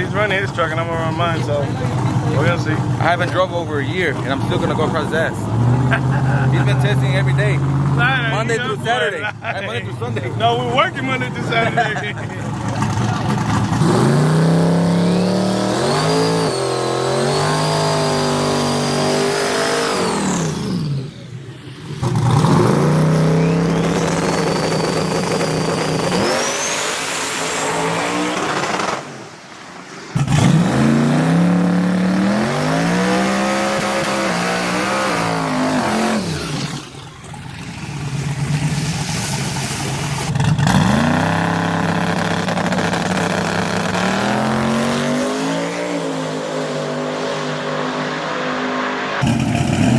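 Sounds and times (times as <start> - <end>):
race truck engines revving: 0.0 - 49.9.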